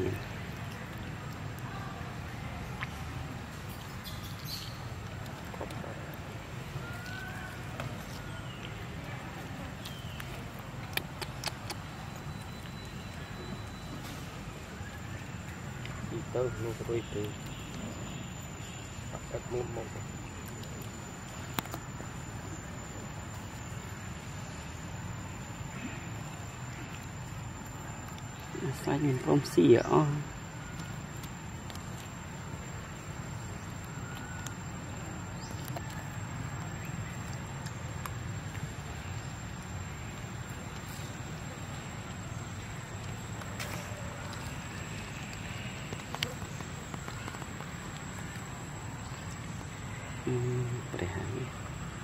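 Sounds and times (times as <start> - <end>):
monkey eating wet smacks: 0.1 - 24.2, 24.8 - 50.2.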